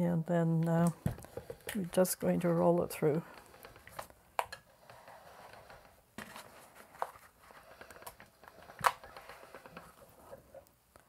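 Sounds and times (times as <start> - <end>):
pasta machine rollers rubbing: 1.4 - 10.6.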